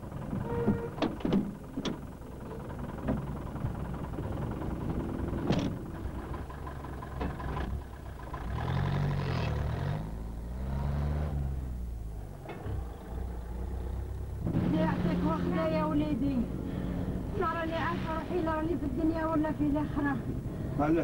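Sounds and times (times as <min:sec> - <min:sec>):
truck engine driving off: 0:00.0 - 0:21.0.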